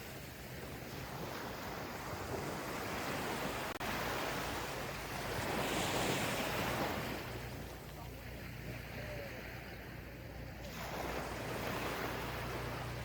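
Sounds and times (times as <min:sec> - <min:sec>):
gentle ocean waves washing: 0:00.0 - 0:13.0.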